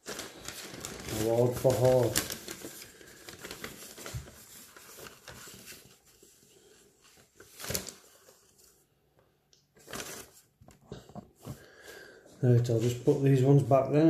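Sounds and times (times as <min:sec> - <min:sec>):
newspaper rustling: 0:00.0 - 0:09.0, 0:09.8 - 0:13.7.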